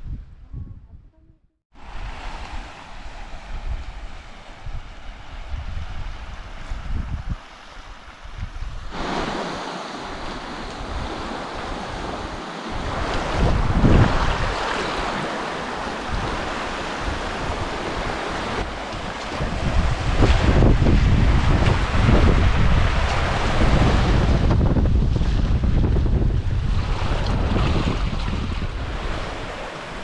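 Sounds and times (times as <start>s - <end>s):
wind buffeting microphone: 0.0s - 30.0s
surf rushing on beach: 1.8s - 30.0s.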